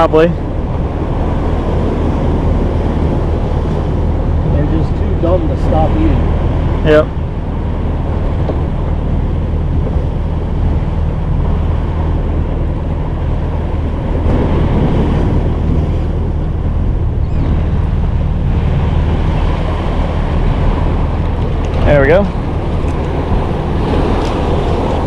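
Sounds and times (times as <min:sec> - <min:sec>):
low rumble: 0:00.0 - 0:25.0
water washing around boat: 0:00.0 - 0:25.0
wind on microphone: 0:00.0 - 0:25.0.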